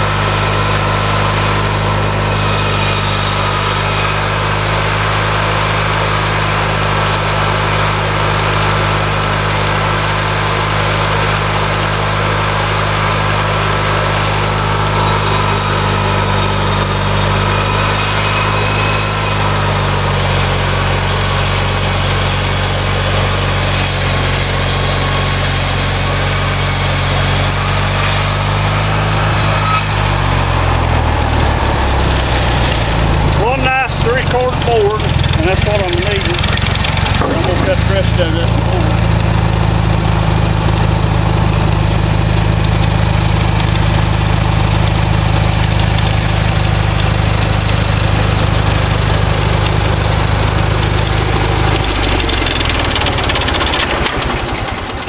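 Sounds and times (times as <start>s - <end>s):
small lawnmower engine running: 0.0s - 55.0s.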